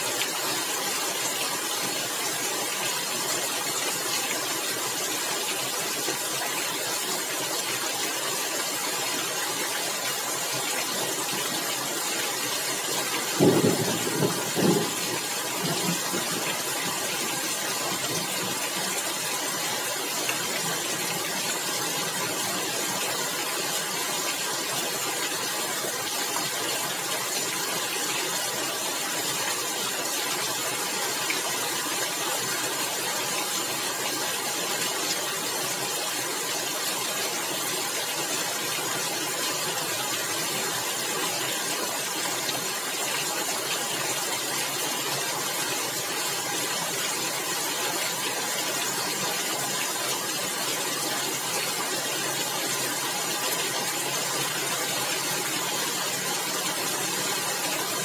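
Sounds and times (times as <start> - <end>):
rain on a tiled roof: 0.0 - 58.0.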